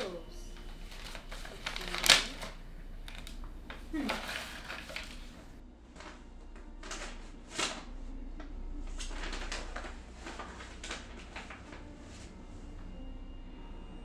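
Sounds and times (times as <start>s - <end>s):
paper envelope rustling: 0.0s - 7.9s, 8.9s - 12.3s.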